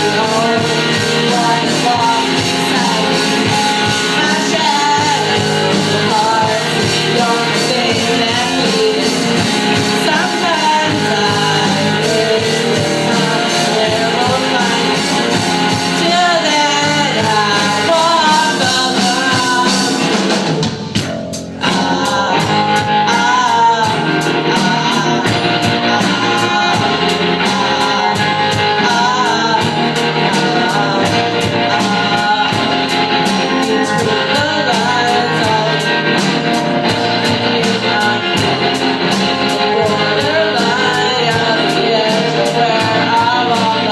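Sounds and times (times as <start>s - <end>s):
drums: 0.0s - 43.9s
electric guitars: 0.0s - 43.9s
person singing lead vocal: 0.0s - 43.9s.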